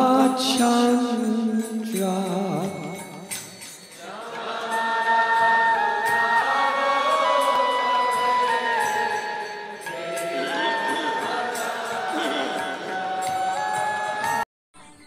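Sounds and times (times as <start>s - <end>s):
devotional song chanting: 0.0s - 15.0s.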